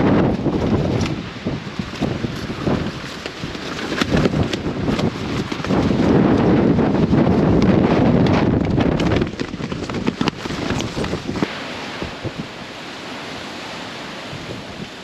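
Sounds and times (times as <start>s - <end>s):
wind buffeting microphone: 0.0s - 12.8s, 14.3s - 15.0s.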